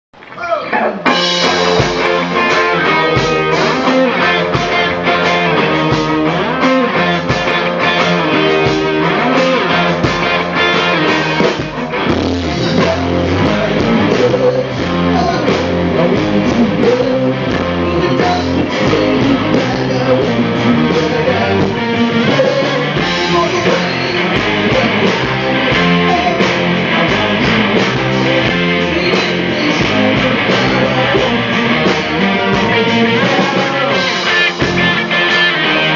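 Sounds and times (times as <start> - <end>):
electric guitar: 0.2 - 35.9
drum kit: 1.0 - 35.9.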